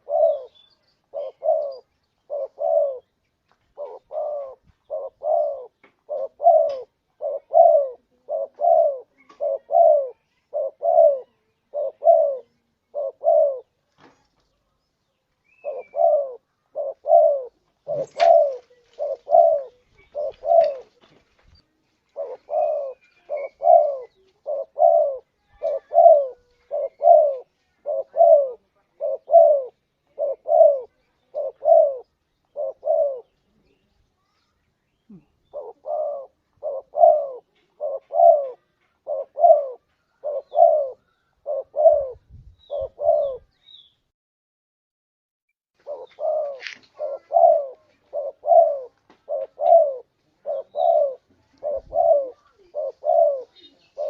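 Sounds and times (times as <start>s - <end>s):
dove cooing: 0.0s - 13.8s, 15.4s - 21.2s, 22.0s - 33.9s, 35.1s - 43.6s, 45.8s - 54.0s.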